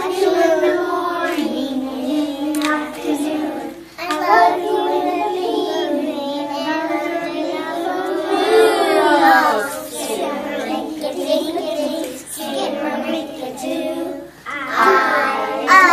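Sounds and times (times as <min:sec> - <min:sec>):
children singing: 0:00.0 - 0:15.9.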